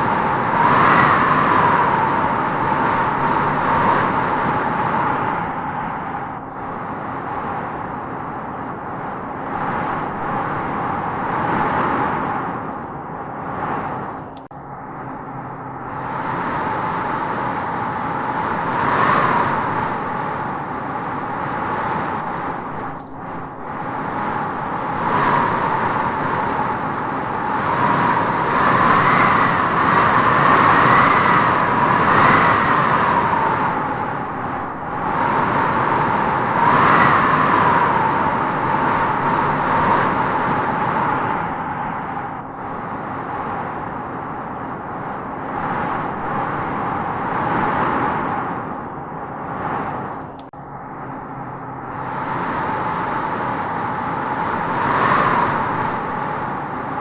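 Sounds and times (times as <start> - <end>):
wind howling and whistling: 0.0 - 57.0.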